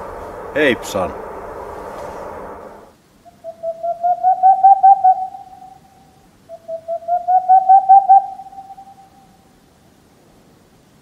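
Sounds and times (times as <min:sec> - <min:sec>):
owl hooting: 0:00.0 - 0:09.5.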